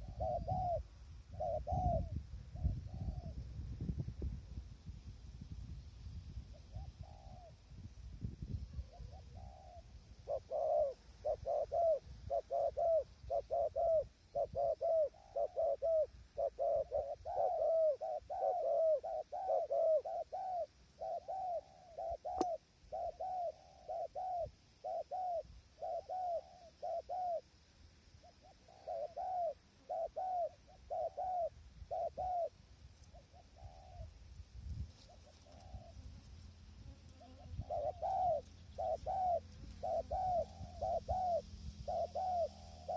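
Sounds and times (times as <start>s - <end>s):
doves cooing: 0.0s - 3.4s, 6.6s - 7.6s, 8.6s - 27.5s, 28.2s - 34.2s, 35.0s - 42.9s.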